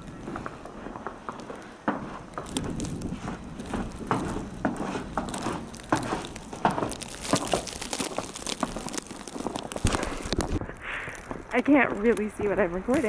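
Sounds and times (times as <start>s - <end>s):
footsteps in snow: 0.0s - 13.0s
plastic bag crinkling on microphone: 2.3s - 13.0s.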